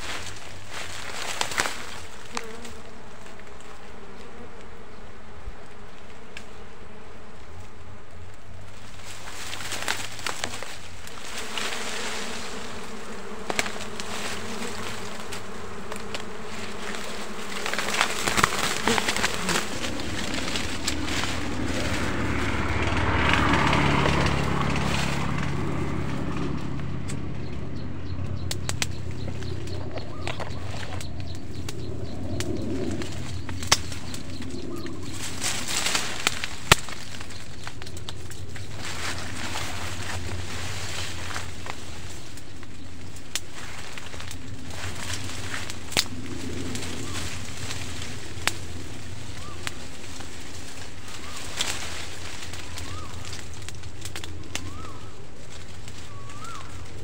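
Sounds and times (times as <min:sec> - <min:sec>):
bees buzzing: 0:00.0 - 0:57.0
leaves and twigs rustling: 0:00.0 - 0:57.0.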